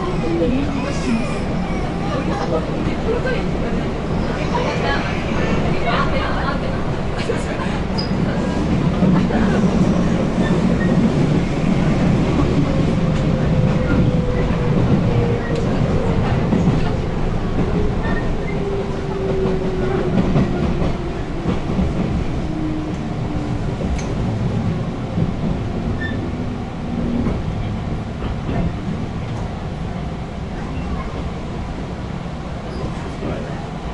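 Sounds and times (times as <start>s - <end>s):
passing train: 0.0s - 33.9s
train wheels rumbling on rails: 0.0s - 33.9s.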